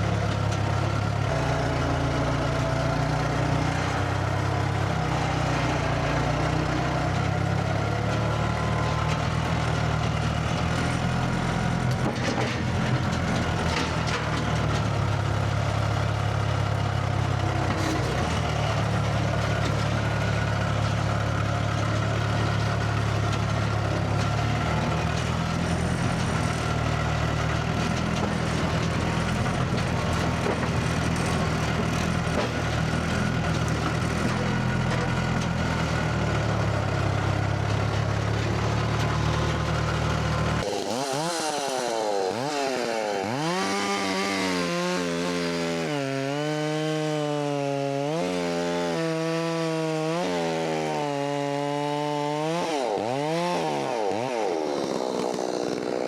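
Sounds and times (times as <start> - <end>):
chainsaw revving cutting wood: 0.0 - 56.0
heavy engine droning: 0.0 - 56.0.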